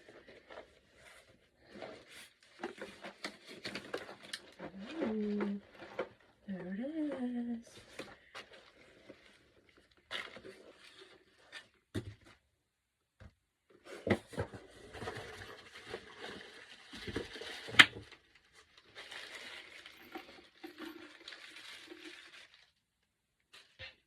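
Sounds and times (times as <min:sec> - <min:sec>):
plastic packaging rustling: 0:00.0 - 0:11.9, 0:14.0 - 0:22.9.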